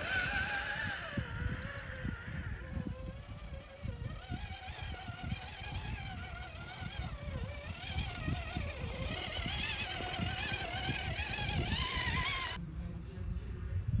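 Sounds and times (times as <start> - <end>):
small electric motor whining: 0.0 - 12.6.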